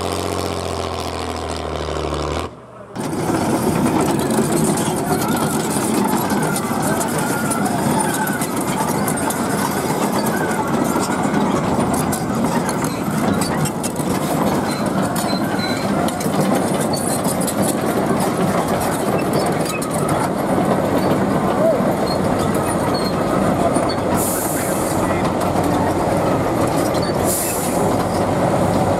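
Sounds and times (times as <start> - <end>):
diesel truck engine running: 0.0 - 28.9
background voices: 2.7 - 28.9.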